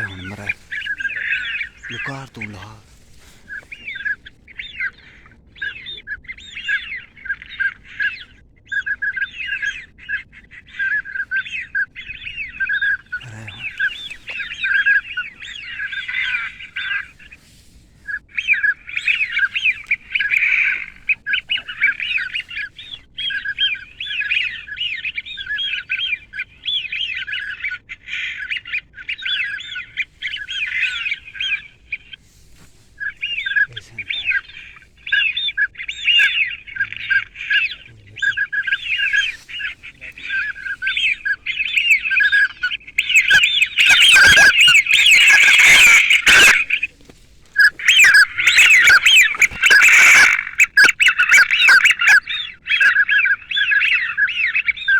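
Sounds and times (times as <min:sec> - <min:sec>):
ducks calling: 0:00.0 - 0:54.9.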